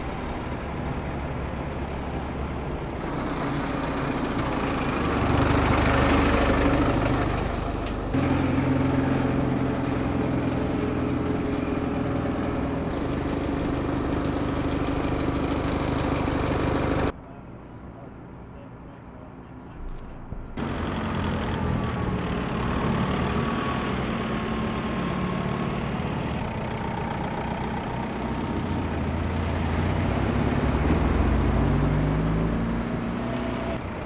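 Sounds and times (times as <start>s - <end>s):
diesel truck engines idling: 0.0s - 17.2s, 20.5s - 34.0s.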